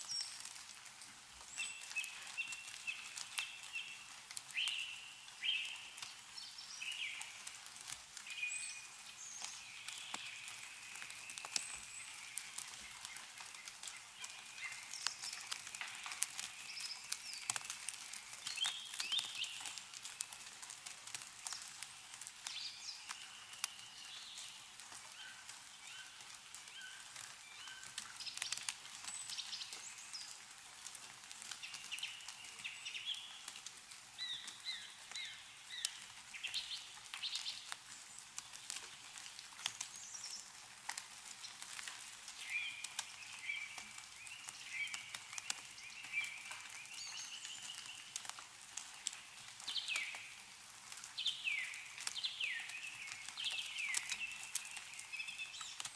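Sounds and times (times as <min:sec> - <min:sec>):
meltwater dripping: 0:00.0 - 0:55.9
songbirds chirping and trilling: 0:01.4 - 0:20.2, 0:21.4 - 0:30.5, 0:31.3 - 0:40.6, 0:41.4 - 0:55.9.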